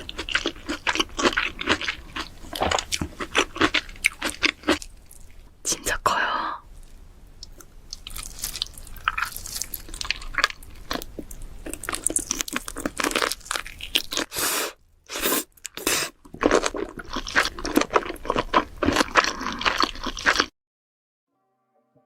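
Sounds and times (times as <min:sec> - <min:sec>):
person chewing crunchy food: 0:00.0 - 0:05.5, 0:07.4 - 0:20.5.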